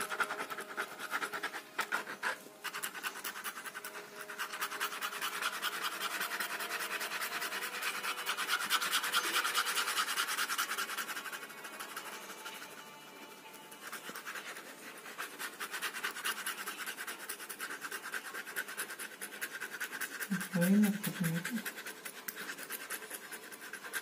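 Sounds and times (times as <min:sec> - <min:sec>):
ballpoint pen scratching on paper: 0:00.0 - 0:24.0.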